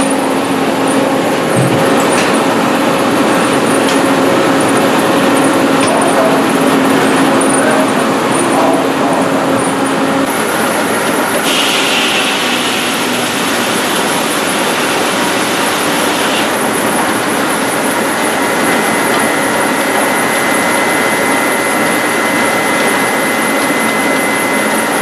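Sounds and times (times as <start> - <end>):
sawmill machinery din: 0.0 - 25.0.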